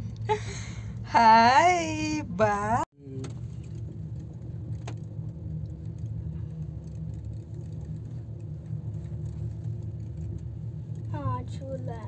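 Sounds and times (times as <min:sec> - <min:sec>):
gondola cabin rumble and hum: 0:00.0 - 0:12.0.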